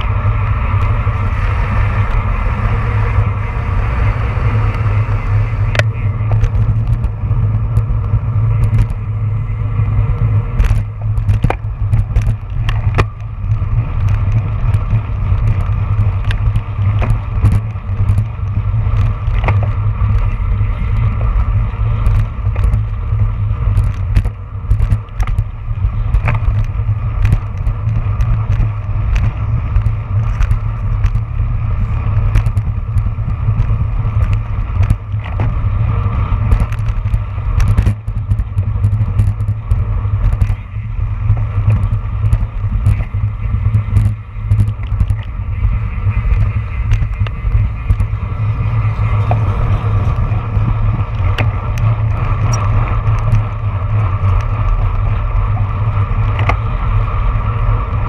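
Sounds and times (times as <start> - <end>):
sharp clicks and rattles: 0.0 - 58.0
tyre and road noise: 0.0 - 58.0
wind rushing over microphone: 0.0 - 58.0.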